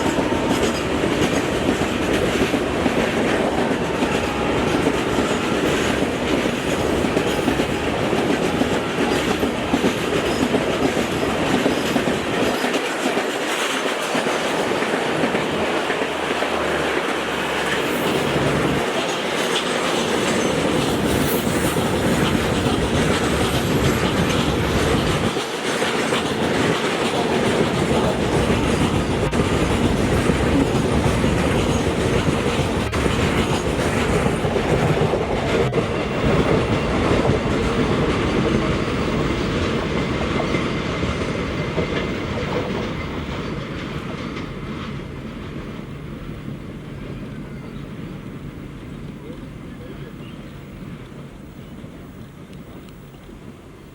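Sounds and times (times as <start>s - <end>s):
wheels clacking over rail joints: 0.0s - 53.8s
train rumbling at speed: 0.0s - 53.9s.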